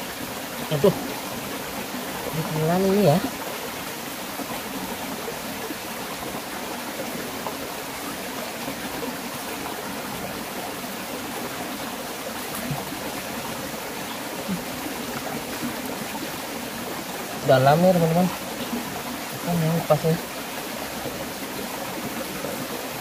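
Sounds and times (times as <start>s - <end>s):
stream running over stones: 0.0s - 23.0s.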